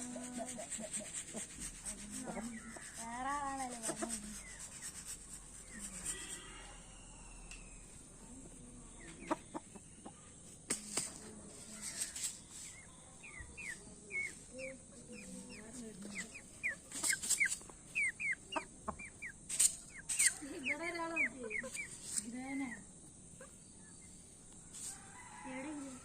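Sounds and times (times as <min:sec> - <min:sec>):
chickens clucking: 0:00.0 - 0:06.2, 0:07.6 - 0:24.9.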